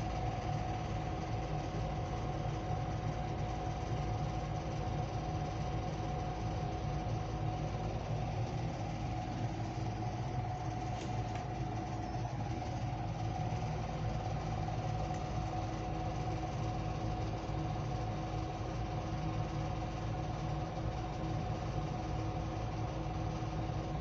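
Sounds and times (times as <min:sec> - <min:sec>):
ceiling fan motor humming: 0:00.0 - 0:24.0
fan whine: 0:00.0 - 0:24.0.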